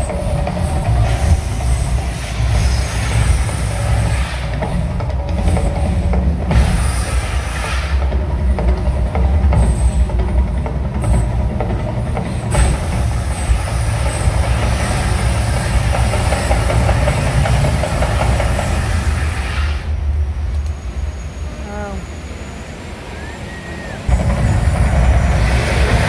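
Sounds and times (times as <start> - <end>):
gas fireballs rushing and crackling: 0.0 - 22.9, 24.1 - 26.0
deep rumble: 0.0 - 23.2, 23.8 - 26.0.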